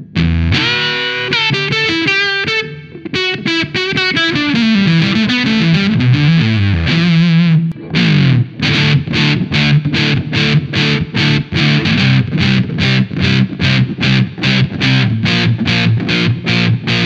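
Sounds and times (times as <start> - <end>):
fuzz electric guitar notes: 0.0 - 17.0
fuzzy strummed guitar chords: 0.0 - 17.0.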